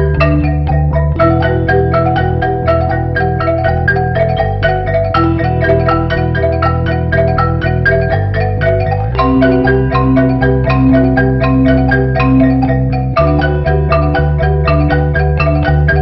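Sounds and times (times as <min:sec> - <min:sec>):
bell-like mallet notes: 0:00.0 - 0:16.0
held low chords: 0:00.0 - 0:16.0.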